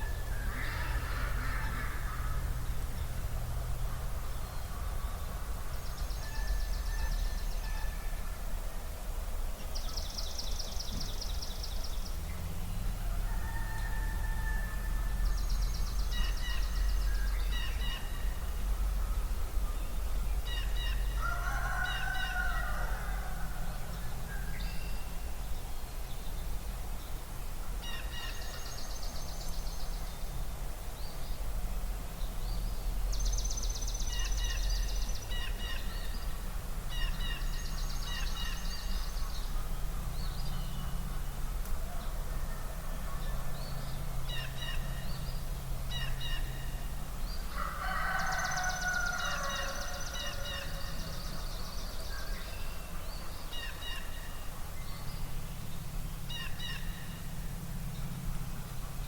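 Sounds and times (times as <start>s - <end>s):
songbirds singing and trilling: 0.0s - 8.5s, 9.4s - 59.0s
steady low rumble: 0.0s - 21.2s, 22.4s - 47.6s, 50.5s - 59.0s.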